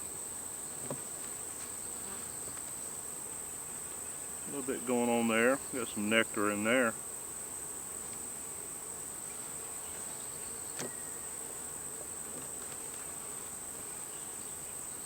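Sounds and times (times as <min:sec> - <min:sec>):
honey bees buzzing: 0:00.3 - 0:15.0.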